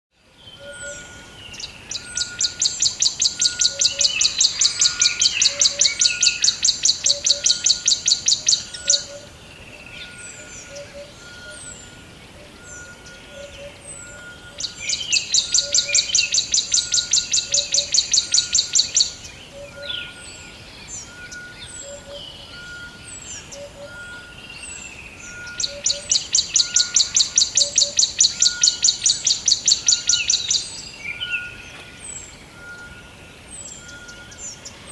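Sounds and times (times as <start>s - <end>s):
bird chirps: 0.4s - 34.9s.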